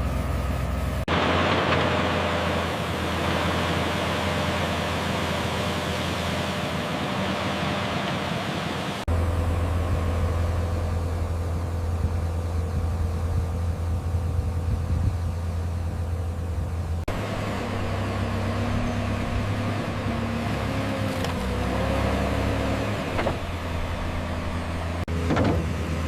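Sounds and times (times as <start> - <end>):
diesel construction machinery running: 0.0 - 26.0.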